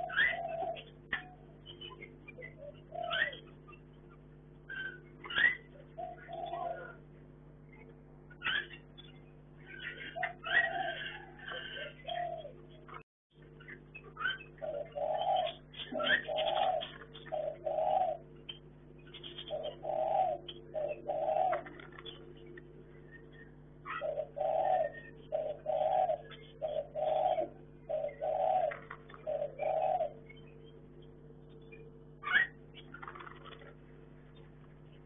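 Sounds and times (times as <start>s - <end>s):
dove cooing: 0.0s - 7.1s, 8.4s - 13.0s, 13.6s - 30.6s, 32.2s - 35.0s.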